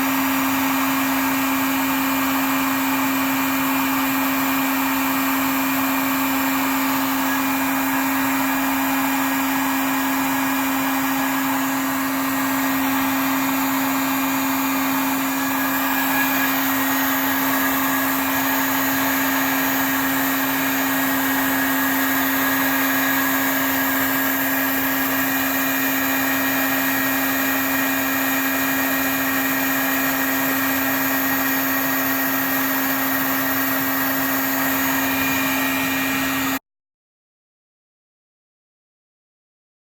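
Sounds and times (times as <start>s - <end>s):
heat gun blowing air: 0.0s - 36.6s.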